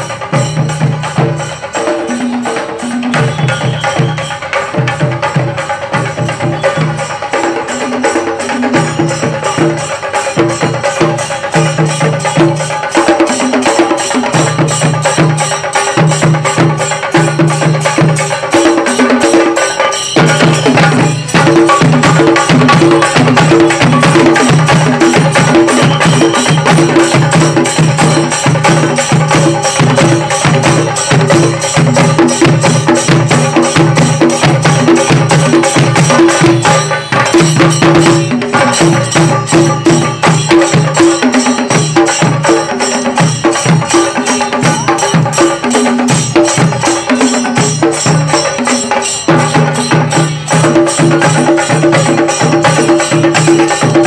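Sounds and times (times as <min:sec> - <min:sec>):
barrel drums beaten fast: 0:00.0 - 0:54.0
hand cymbals clashing: 0:00.0 - 0:54.0.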